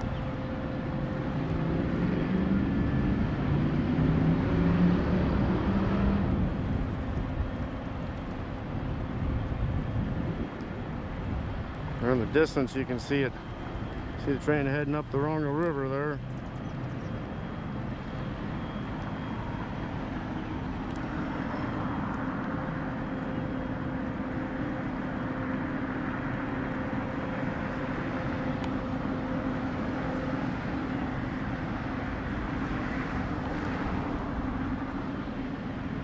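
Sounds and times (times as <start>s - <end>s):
distant freight train rumble: 0.0s - 36.0s.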